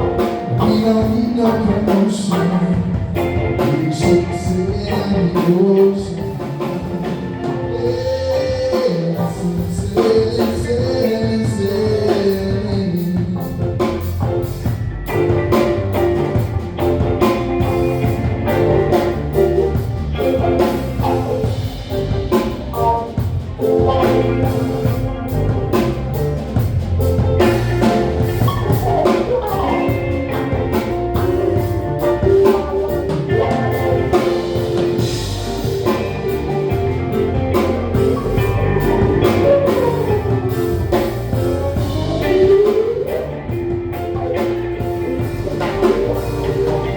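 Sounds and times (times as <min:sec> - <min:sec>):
drum kit beat: 0:00.0 - 0:46.9
live band music: 0:00.0 - 0:46.9.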